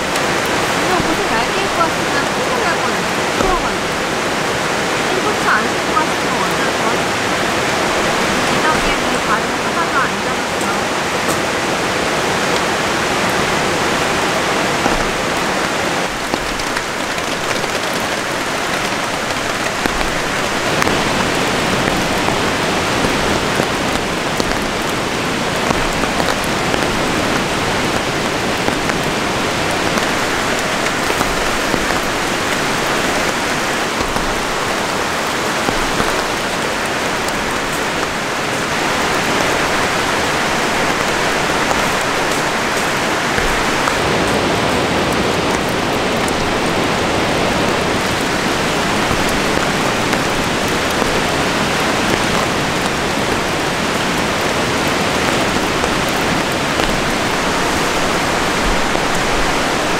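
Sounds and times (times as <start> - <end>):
heavy rain on a tarp: 0.0 - 59.9.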